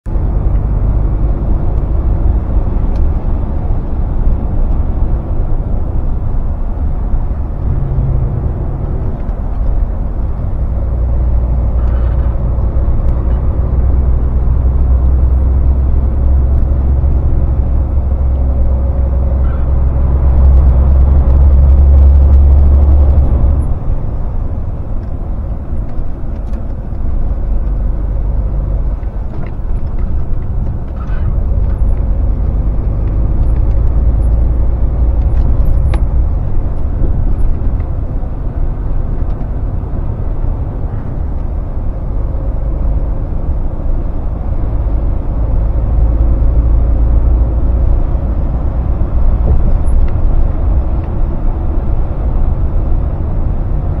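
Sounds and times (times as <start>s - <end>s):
lorry engine drone: 0.1s - 54.0s
tyre and road rumble: 0.1s - 54.0s.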